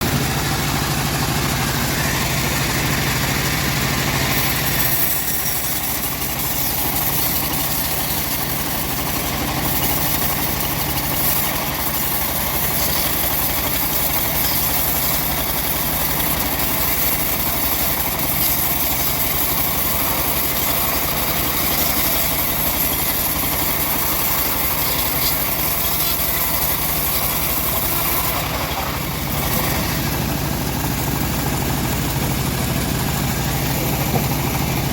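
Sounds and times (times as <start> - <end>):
sawmill engine running: 0.0 - 34.9
saw blade hissing in log: 0.1 - 34.9.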